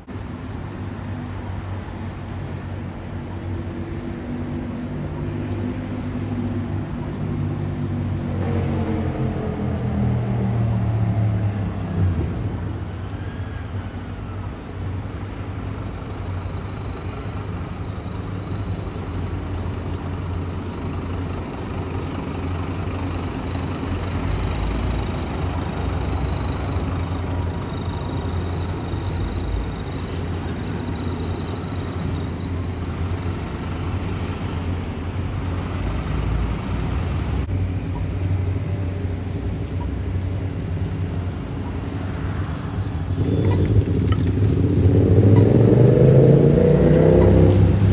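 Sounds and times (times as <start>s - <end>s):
diesel engine rumbling: 0.0s - 47.9s.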